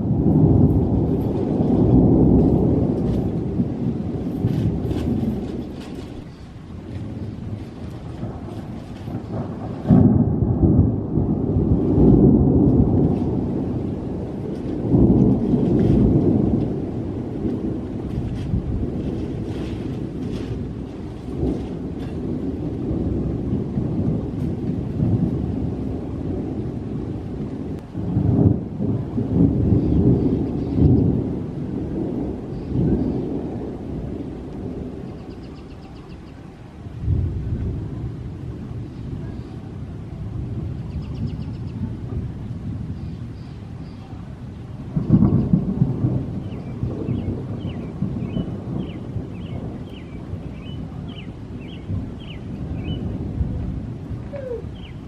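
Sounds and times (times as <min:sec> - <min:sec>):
rain: 0:00.0 - 0:55.0
thunder clap and rumbles: 0:00.0 - 0:55.0.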